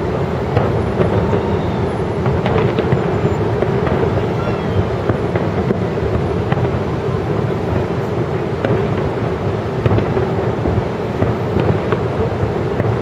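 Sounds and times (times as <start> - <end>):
fireworks booming: 0.0 - 13.0
sharp fireworks cracks: 0.0 - 13.0.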